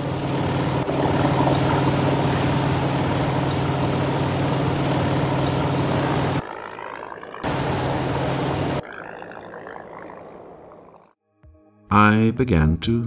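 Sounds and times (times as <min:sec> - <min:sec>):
propeller aircraft engine drone: 0:00.0 - 0:11.2.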